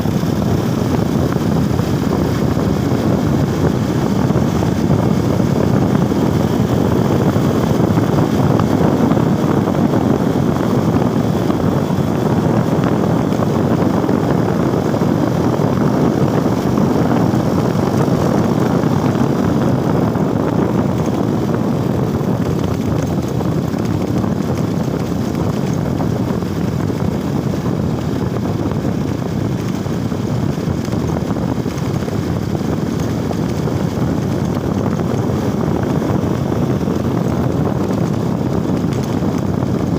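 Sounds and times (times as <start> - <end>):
motorcycle running: 0.0 - 39.9
wind on microphone: 0.0 - 39.9.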